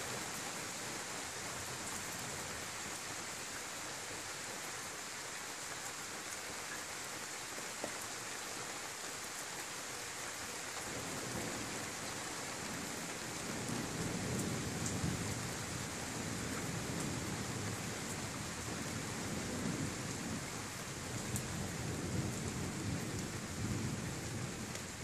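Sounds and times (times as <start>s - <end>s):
rain falling with a hiss: 0.0s - 25.0s.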